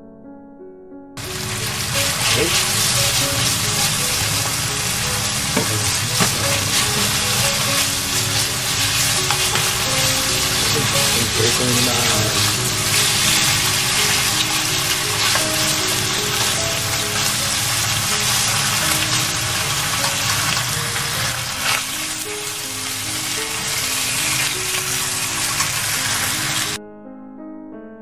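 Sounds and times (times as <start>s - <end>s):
soft background music: 0.0s - 28.0s
bacon sizzling in a frying pan: 1.2s - 26.8s.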